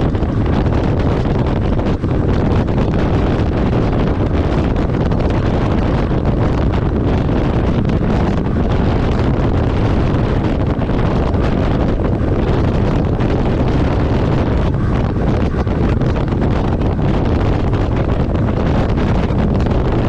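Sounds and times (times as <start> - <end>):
truck engine and road noise: 0.0 - 20.0
wind buffeting microphone: 0.0 - 20.0.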